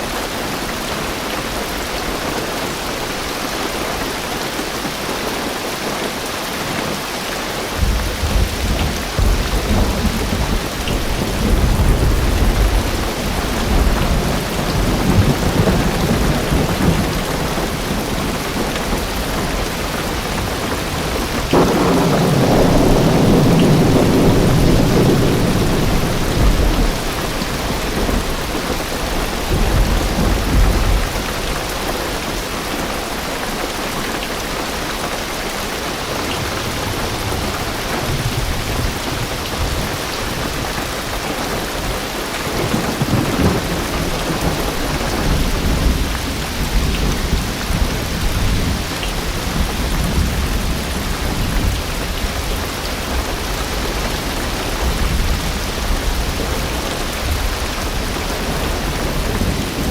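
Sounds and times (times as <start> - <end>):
heavy rain on a car roof: 0.0 - 59.9
thunder rumbling: 7.6 - 33.2, 36.4 - 59.9.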